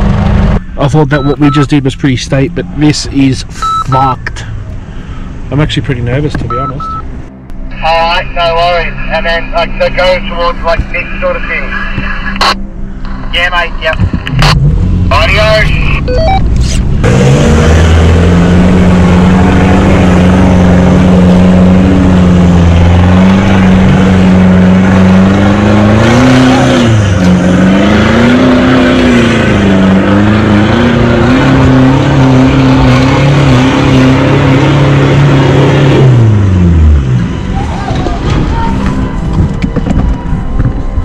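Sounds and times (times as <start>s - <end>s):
vehicle engine pulling uphill: 0.0s - 8.0s, 14.0s - 41.0s.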